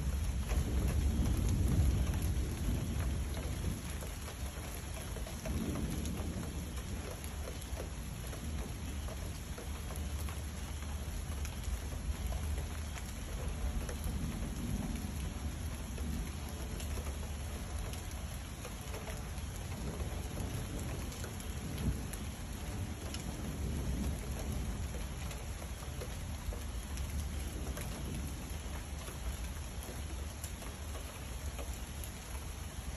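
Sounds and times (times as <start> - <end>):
low rolling thunder: 0.0 - 30.9
rain pattering: 0.0 - 32.9.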